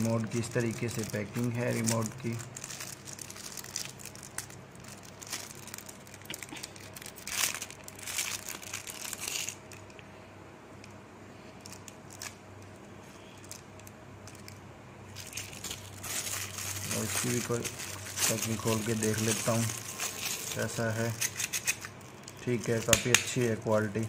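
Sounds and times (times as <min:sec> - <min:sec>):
plastic packaging crinkling: 0:00.0 - 0:10.0, 0:11.6 - 0:24.0.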